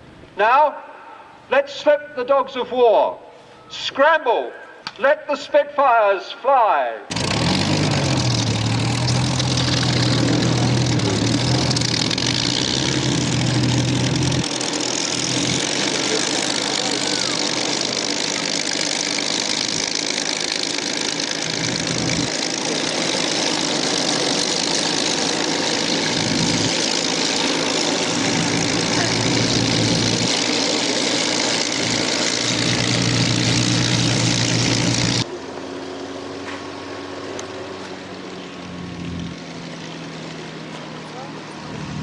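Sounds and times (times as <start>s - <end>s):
steady engine hum: 7.0s - 42.0s
aircraft piston engines running: 7.1s - 42.0s.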